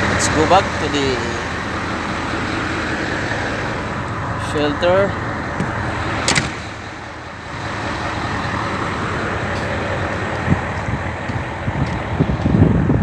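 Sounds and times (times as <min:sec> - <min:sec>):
crane engine rumbling: 0:00.0 - 0:13.0.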